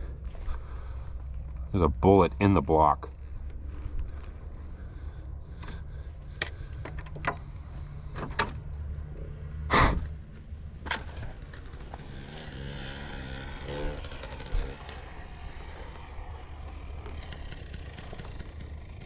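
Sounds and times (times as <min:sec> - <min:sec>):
dirt bike engine idling: 0:00.0 - 0:19.0.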